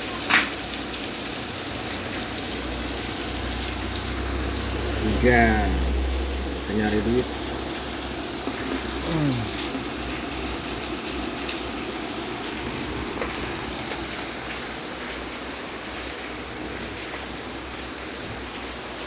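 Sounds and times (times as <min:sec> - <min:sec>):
continuous rain: 0:00.0 - 0:19.0.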